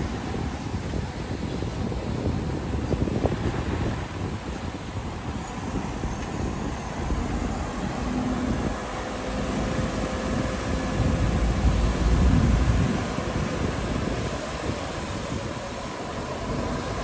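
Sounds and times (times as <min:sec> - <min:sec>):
heavy diesel machinery rumbling: 0:00.0 - 0:17.0.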